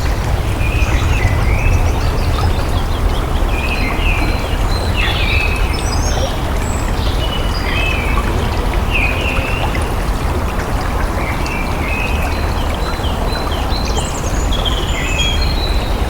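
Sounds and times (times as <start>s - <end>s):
water flowing: 0.0s - 16.0s.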